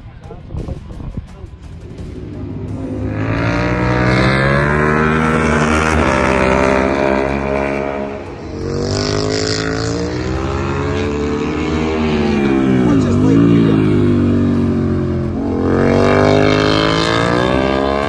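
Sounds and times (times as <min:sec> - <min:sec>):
racing motorcycle engine revving: 0:01.6 - 0:18.0.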